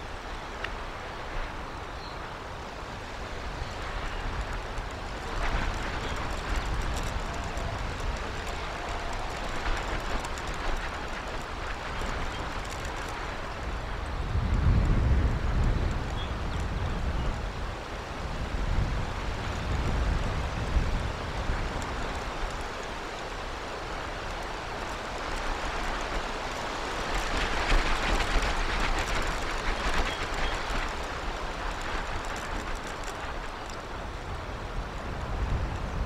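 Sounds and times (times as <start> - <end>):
rushing outdoor noise: 0.0 - 36.0.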